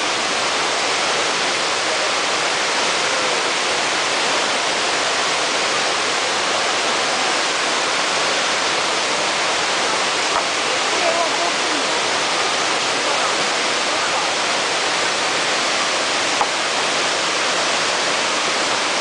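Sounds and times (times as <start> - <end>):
waterfall pouring over rocks: 0.0 - 19.0.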